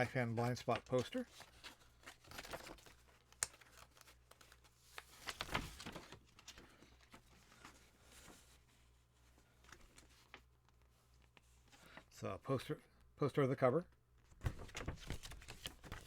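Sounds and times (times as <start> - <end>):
paper rustling and crinkling: 0.3 - 12.1, 14.3 - 16.0.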